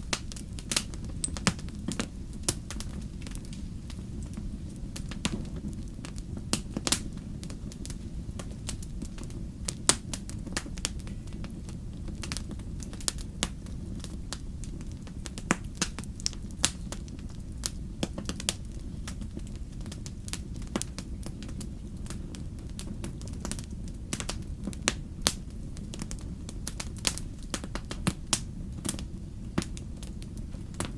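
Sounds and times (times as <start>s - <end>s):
wood fire crackling in fireplace: 0.0s - 30.9s.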